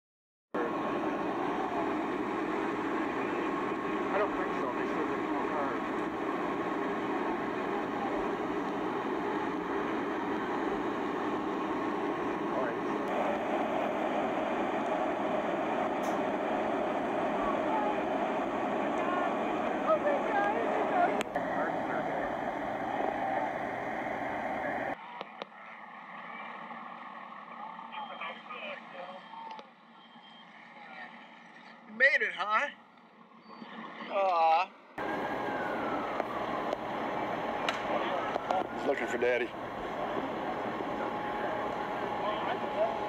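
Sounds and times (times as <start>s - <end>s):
fire engine running: 0.6s - 31.7s, 35.0s - 43.0s
outdoor background noise: 0.6s - 43.0s.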